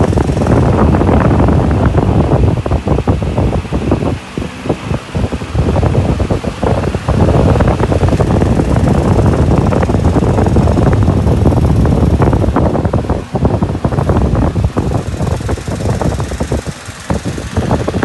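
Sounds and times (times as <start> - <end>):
fan airflow buffeting microphone: 0.0 - 18.0.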